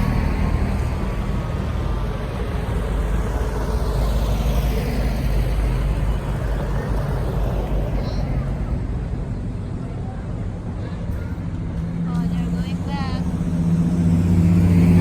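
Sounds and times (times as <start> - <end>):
cars driving past: 0.0 - 15.0
low engine rumble: 0.0 - 15.0.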